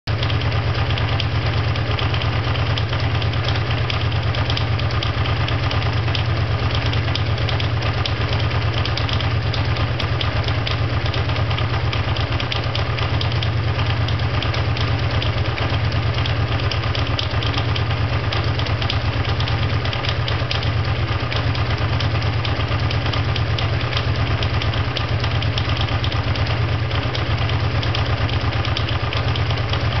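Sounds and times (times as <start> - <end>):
motorcycle engine idling: 0.1 - 30.0.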